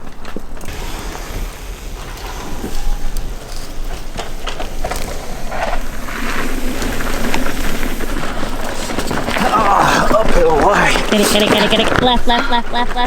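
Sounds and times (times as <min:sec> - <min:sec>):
bike tyres crunching on rocky trail: 0:00.0 - 0:13.0.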